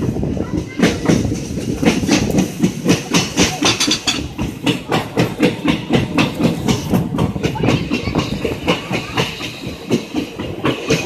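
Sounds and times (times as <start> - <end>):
train rumble: 0.0 - 11.0
train wheels clattering over rail joints: 0.0 - 11.0.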